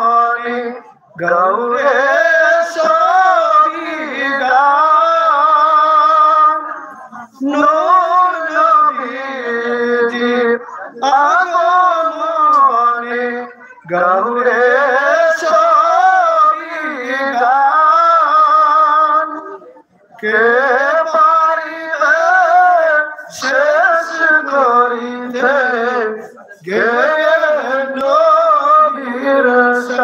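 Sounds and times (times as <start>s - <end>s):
man singing unaccompanied: 0.0s - 30.0s.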